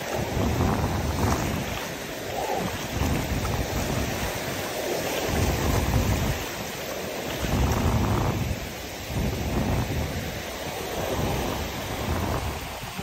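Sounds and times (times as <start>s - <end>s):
shallow surf washing: 0.0s - 13.0s
wind gusting on microphone: 0.0s - 13.0s.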